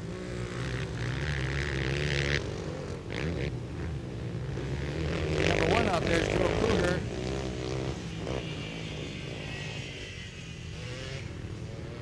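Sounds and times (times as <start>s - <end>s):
quad engines revving: 0.0s - 12.0s.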